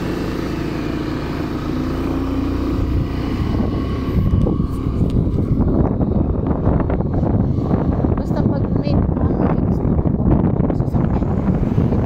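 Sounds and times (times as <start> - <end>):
motorcycle engine running: 0.0 - 12.0
wind buffeting microphone: 1.8 - 12.0.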